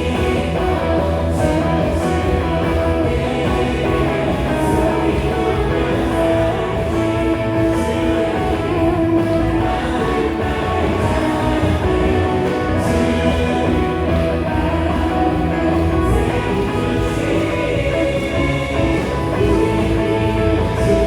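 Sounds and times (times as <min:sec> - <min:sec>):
live worship band playing: 0:00.0 - 0:21.0.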